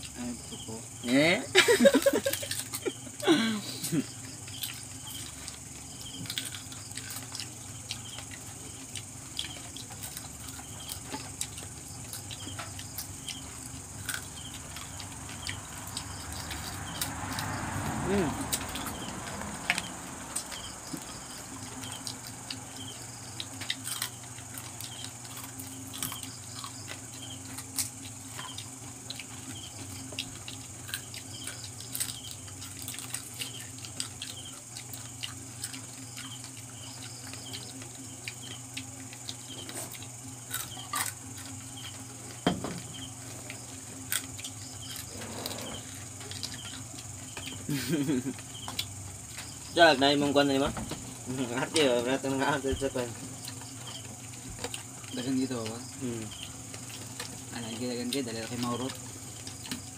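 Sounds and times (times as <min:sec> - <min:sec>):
chewing and crunching: 0:00.0 - 0:59.9
crickets chirring: 0:00.0 - 0:59.9
low steady hum: 0:00.0 - 0:59.9.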